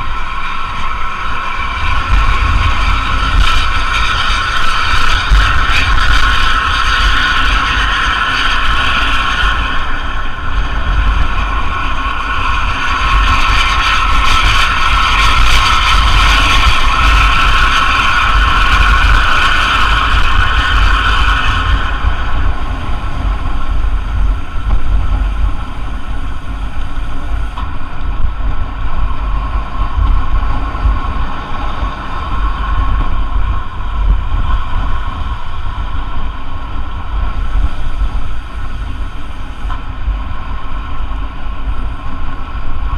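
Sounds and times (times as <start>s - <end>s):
bus engine rumbling: 0.0s - 42.9s
high whine: 0.0s - 42.9s.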